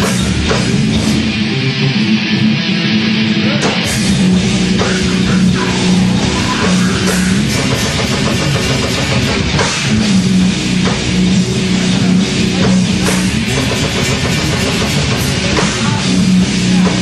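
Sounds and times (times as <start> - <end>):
drum kit with cymbals: 0.0 - 1.5, 3.5 - 17.0
distorted electric guitar and bass: 0.0 - 17.0.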